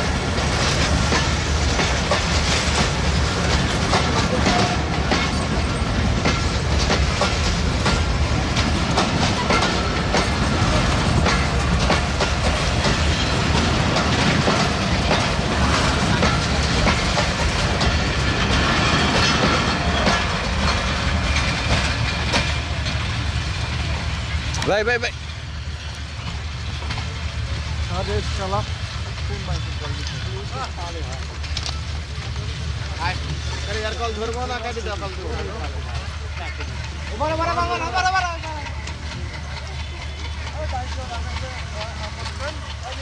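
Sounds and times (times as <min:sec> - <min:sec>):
train wheels clickety-clack: 0:00.0 - 0:43.0.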